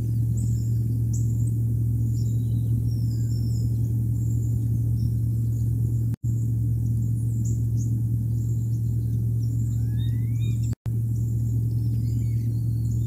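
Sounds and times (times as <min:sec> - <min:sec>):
faint high chirping: 0:00.0 - 0:13.0
low electrical hum and rumble: 0:00.0 - 0:13.0.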